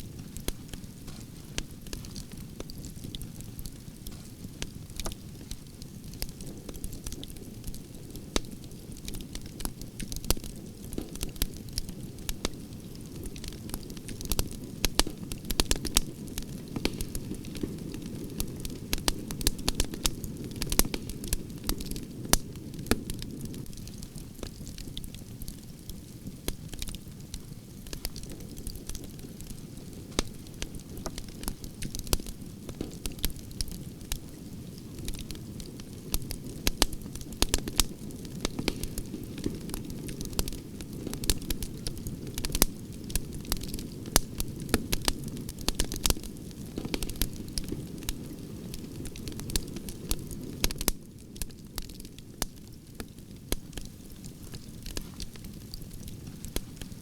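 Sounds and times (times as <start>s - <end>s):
branches burning with crackles: 0.0s - 57.0s.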